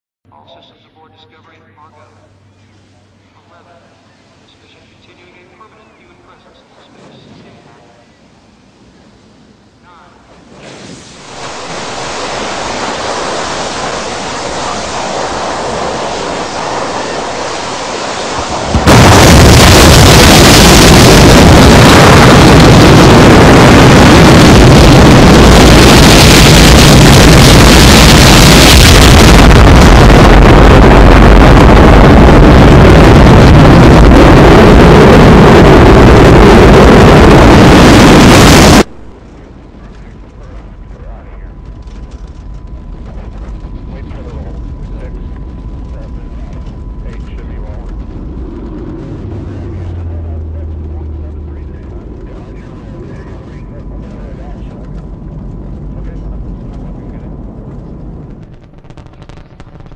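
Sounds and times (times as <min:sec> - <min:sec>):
rocket engines rushing noise: 0:04.6 - 0:59.9
deep rocket roar: 0:06.5 - 0:59.9.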